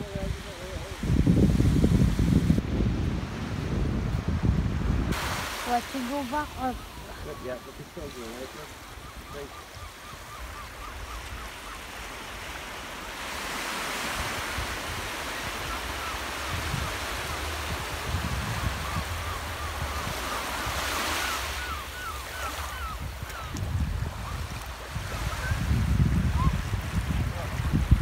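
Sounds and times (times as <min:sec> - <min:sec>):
wind on microphone: 0:00.0 - 0:12.6, 0:13.2 - 0:28.0
waves lapping on sandy shore: 0:00.0 - 0:28.0.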